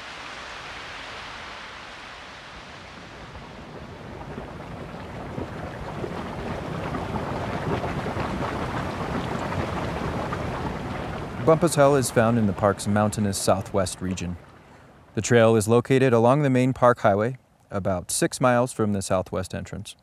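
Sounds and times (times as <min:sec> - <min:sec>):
hot spring bubbling and crackling: 0:00.0 - 0:17.1
steady hiss: 0:00.0 - 0:20.0.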